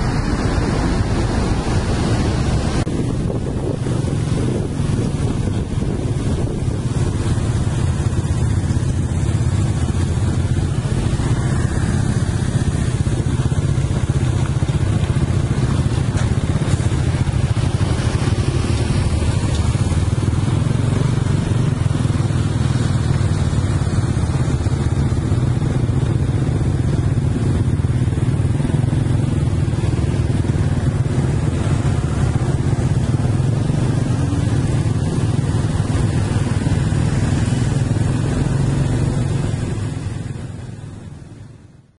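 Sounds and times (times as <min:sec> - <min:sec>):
road and wind noise: 0:00.0 - 0:42.0
vehicle engines droning: 0:00.0 - 0:42.0.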